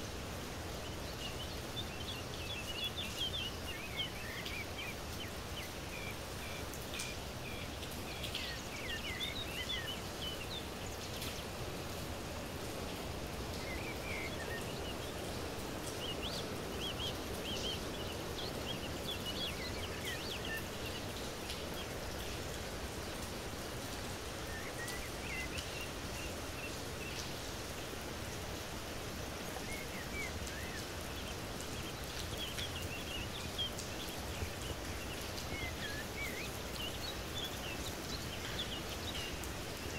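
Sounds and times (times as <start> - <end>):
rain hiss: 0.0 - 39.9
small birds chirping: 0.5 - 39.9.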